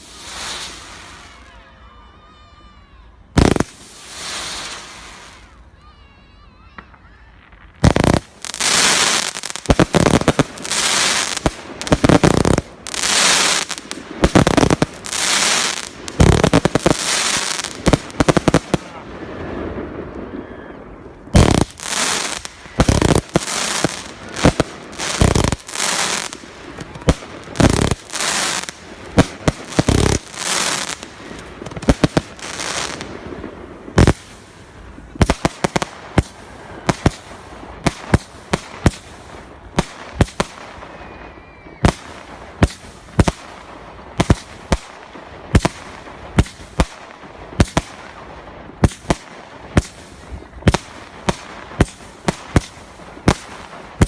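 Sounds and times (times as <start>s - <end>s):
fireworks bangs and crackling: 0.0s - 1.6s, 3.3s - 5.6s, 6.7s - 54.0s
sharp firework reports: 3.4s - 5.5s, 7.5s - 54.0s.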